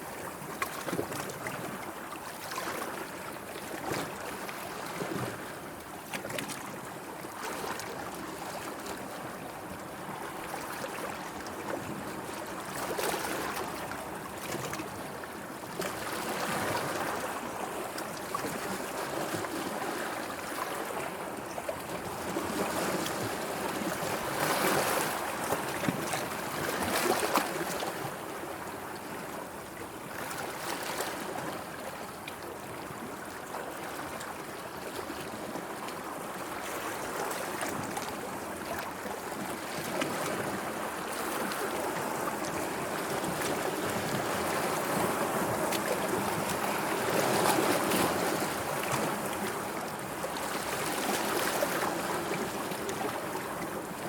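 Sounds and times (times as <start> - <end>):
small waves lapping: 0.0 - 54.0.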